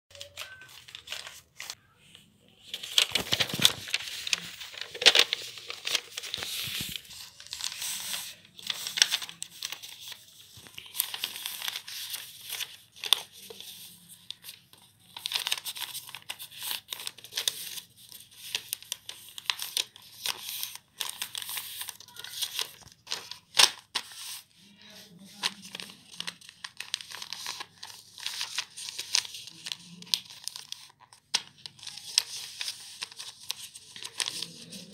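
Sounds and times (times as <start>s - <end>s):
paper rustling and crinkling: 0.1s - 34.9s
paper creasing clicks: 2.7s - 24.4s, 25.3s - 34.9s.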